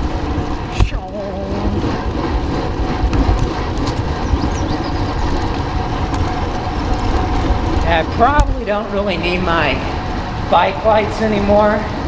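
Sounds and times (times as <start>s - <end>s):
bicycle road noise: 0.0s - 12.0s
wind buffeting microphone: 0.0s - 12.0s.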